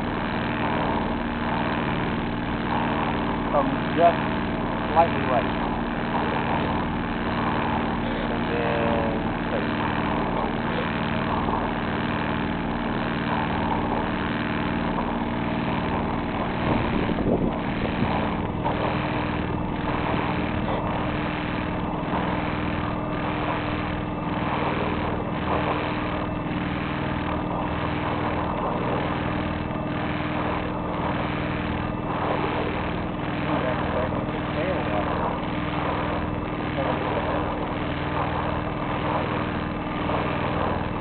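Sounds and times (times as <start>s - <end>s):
boat engine running: 0.0s - 41.0s
constant rush of noise: 0.0s - 41.0s
faint regular pulsing: 0.0s - 41.0s.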